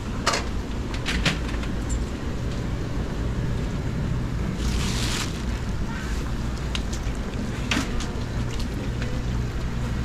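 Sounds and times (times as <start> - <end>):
low market rumble: 0.0 - 10.0.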